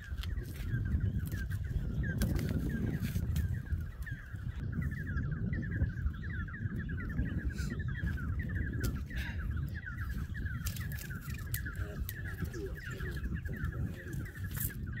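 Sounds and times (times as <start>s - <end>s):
bird chirping rapidly: 0.0s - 15.0s.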